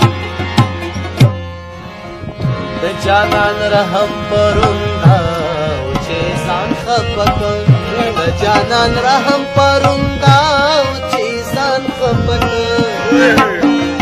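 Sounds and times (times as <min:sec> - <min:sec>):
tabla drumming: 0:00.0 - 0:14.0
wavering instrumental melody: 0:00.0 - 0:14.0.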